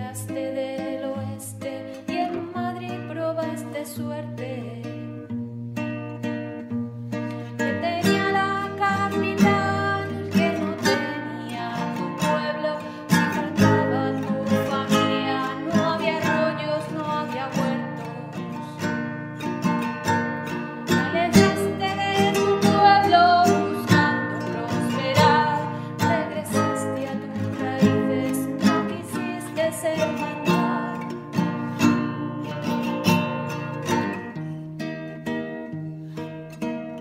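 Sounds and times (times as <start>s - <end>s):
woman singing: 0.0s - 5.6s, 7.4s - 19.1s, 20.3s - 34.3s
acoustic guitar: 0.0s - 37.0s.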